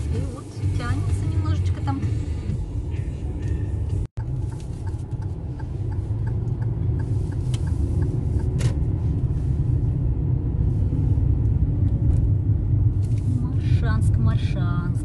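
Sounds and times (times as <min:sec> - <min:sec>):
road and engine rumble inside car: 0:00.0 - 0:15.0.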